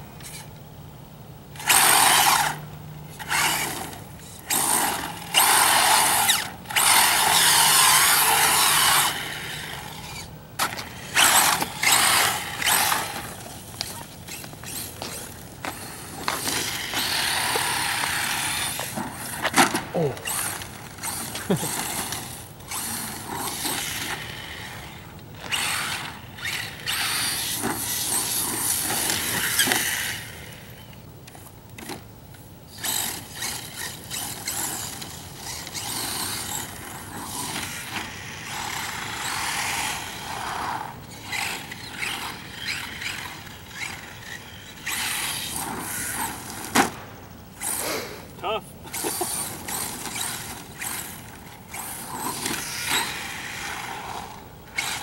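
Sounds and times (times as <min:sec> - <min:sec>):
rc truck motor whine: 0:00.0 - 0:55.0.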